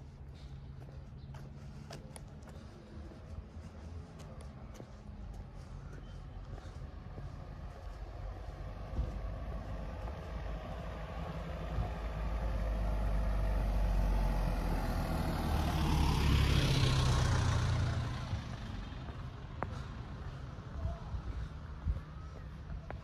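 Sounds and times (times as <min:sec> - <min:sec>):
van engine rumble: 0:00.0 - 0:23.0.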